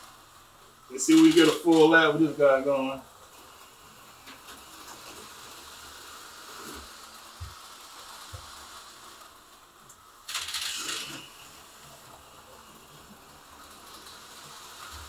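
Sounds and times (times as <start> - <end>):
slot car motor whine: 0.0 - 15.0.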